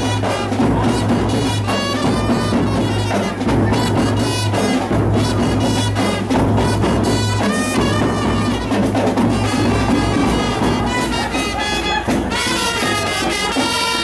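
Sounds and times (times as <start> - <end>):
brass band playing: 0.0 - 14.0
steady drumbeat: 0.0 - 14.0.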